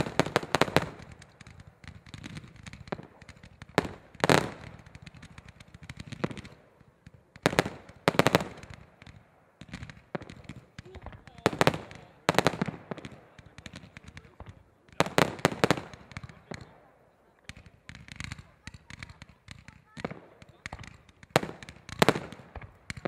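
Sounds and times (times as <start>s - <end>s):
fireworks bangs: 0.0s - 23.0s
fireworks popping and crackle: 0.0s - 23.0s.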